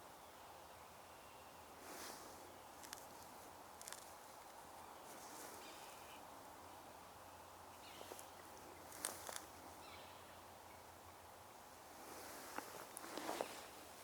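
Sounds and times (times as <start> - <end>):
distant bird calls: 0.0 - 14.0.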